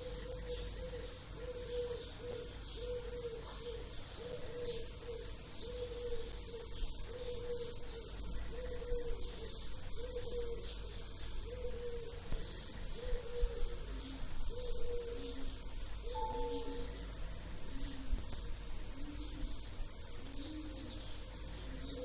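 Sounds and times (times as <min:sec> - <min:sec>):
low hooting bird call: 0:00.0 - 0:19.6
small birds chirping: 0:00.0 - 0:22.0.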